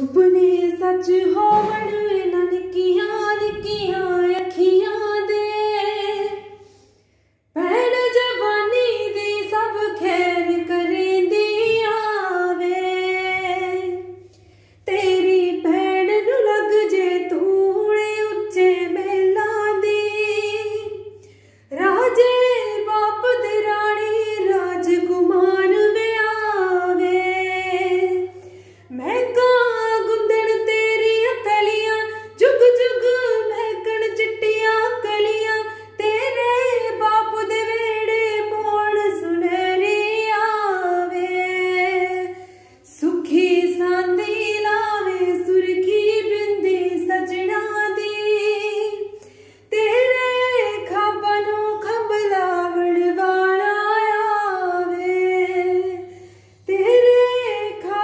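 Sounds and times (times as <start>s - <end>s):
woman singing unaccompanied: 0.0s - 6.6s, 7.6s - 14.2s, 14.9s - 21.1s, 21.7s - 58.0s.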